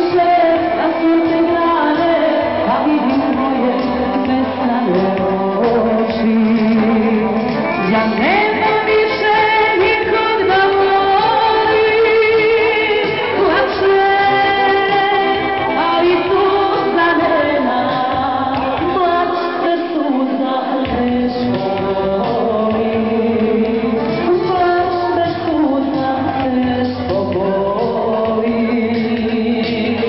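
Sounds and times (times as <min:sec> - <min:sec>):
electronic keyboard backing: 0:00.0 - 0:30.0
woman singing into microphone: 0:00.0 - 0:30.0.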